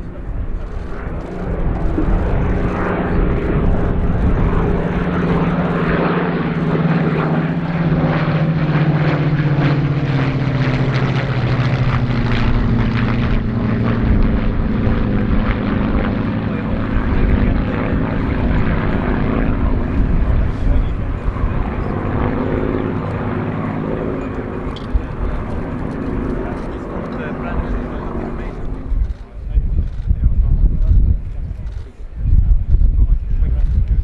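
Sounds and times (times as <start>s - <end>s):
propeller aircraft engines droning: 0.0s - 34.0s.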